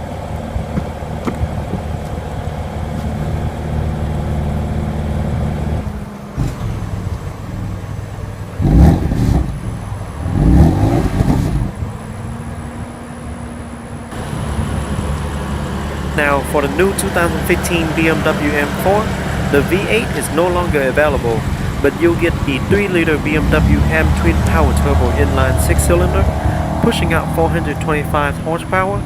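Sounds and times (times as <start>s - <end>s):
car engine idling: 0.0s - 29.0s
car engine revving: 0.0s - 29.0s.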